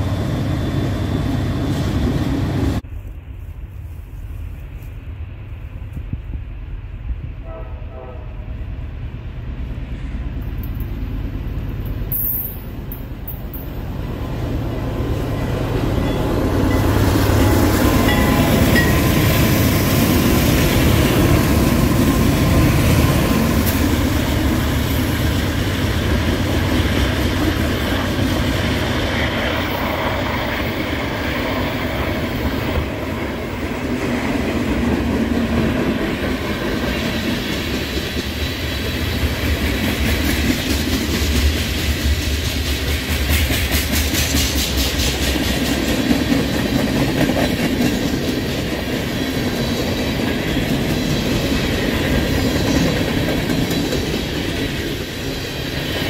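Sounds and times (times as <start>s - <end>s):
diesel locomotive engines: 0.0s - 56.0s
train cars rolling on rails: 0.0s - 56.0s.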